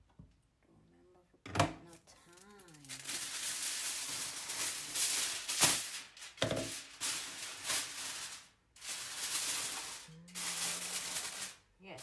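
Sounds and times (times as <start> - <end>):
aluminium foil crinkling: 1.8 - 12.0.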